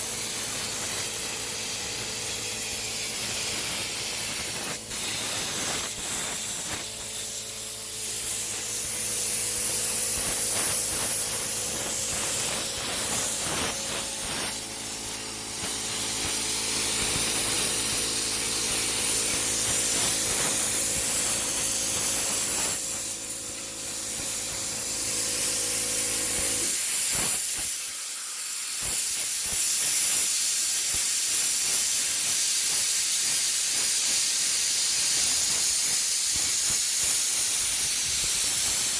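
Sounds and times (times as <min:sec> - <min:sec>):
compressed air jet hissing: 0:00.0 - 0:38.9.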